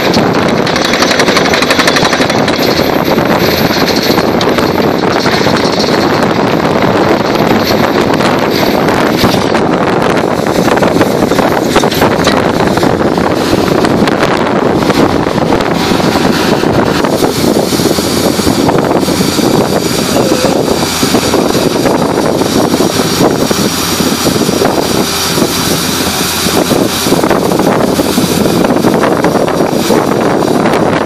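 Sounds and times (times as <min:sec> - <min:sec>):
air compressor running: 0:00.0 - 0:31.0
drilling rig running loudly: 0:00.0 - 0:31.0.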